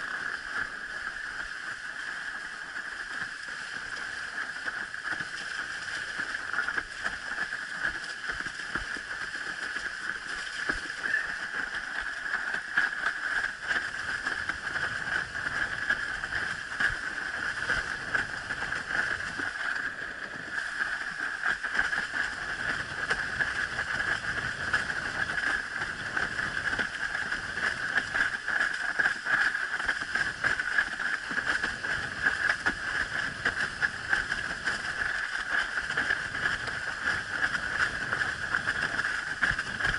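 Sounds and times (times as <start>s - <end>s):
water rushing past board: 0.0s - 39.9s.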